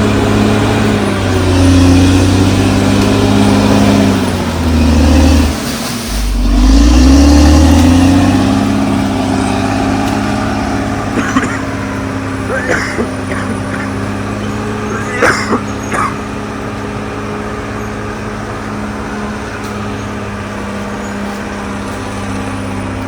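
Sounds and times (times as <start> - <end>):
bulldozer diesel engine working: 0.0 - 23.0.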